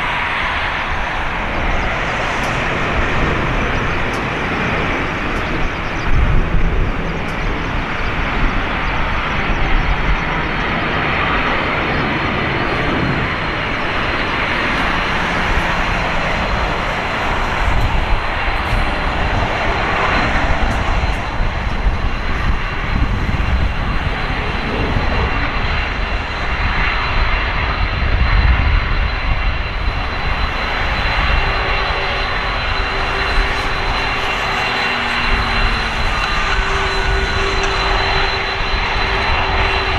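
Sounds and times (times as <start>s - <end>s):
high jet whine: 0.0s - 39.9s
jet engines rumbling: 0.0s - 39.9s.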